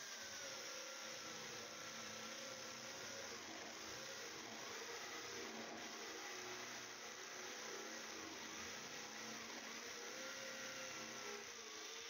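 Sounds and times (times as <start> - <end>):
electric drill boring steel: 0.0 - 12.0.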